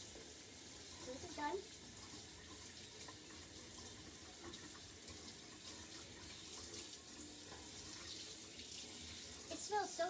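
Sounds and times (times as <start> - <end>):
water splashing into sink: 0.0 - 10.0.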